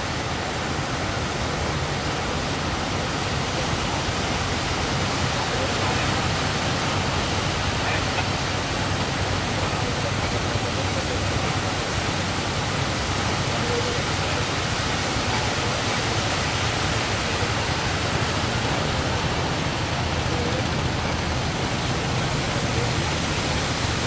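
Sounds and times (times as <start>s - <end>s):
heavy surf roaring: 0.0s - 24.0s.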